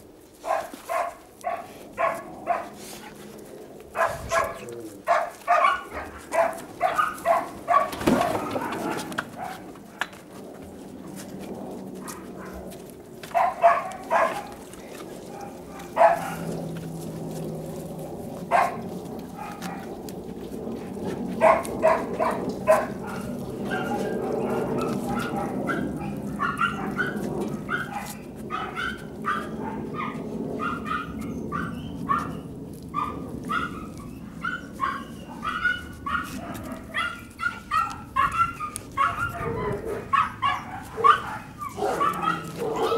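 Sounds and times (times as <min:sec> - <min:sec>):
dogs barking and yipping: 0:00.4 - 0:42.9.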